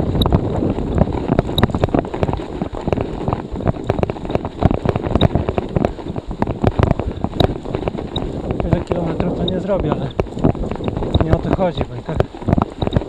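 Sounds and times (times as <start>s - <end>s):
bicycle clicks and knocks in snow: 0.0s - 13.0s
wind buffeting microphone: 0.0s - 13.0s.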